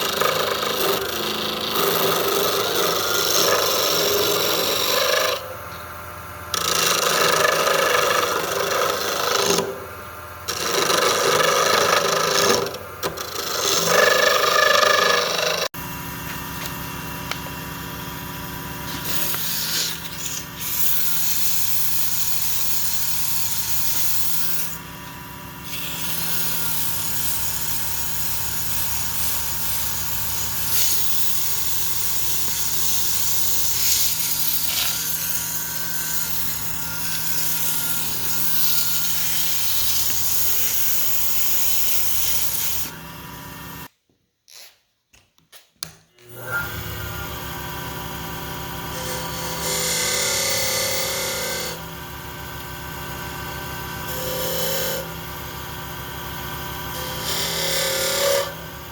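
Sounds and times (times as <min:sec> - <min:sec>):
motor-driven shop tool hissing: 0:00.0 - 0:43.9, 0:46.2 - 0:58.9.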